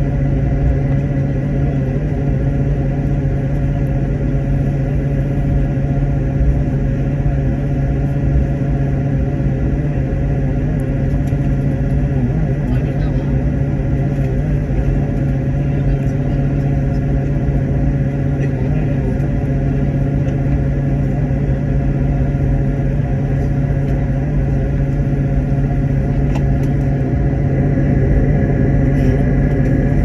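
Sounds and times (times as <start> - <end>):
aircraft cabin engine drone: 0.0 - 30.0.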